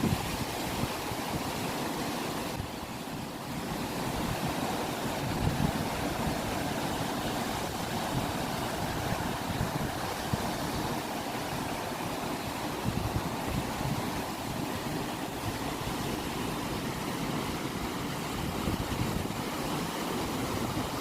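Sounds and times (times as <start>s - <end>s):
wind buffeting microphone: 0.0s - 1.8s, 2.4s - 21.0s
ocean surf washing: 0.0s - 21.0s.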